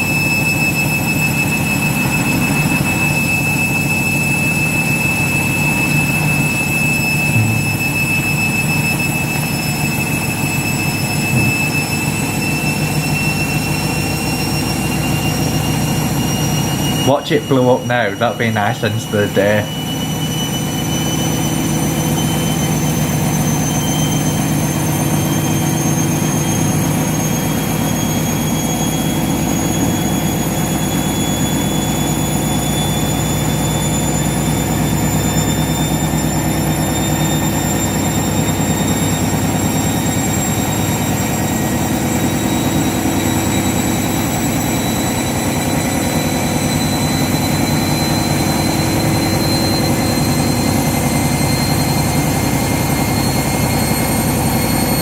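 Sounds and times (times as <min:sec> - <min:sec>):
washing machine motor whine: 0:00.0 - 0:55.0.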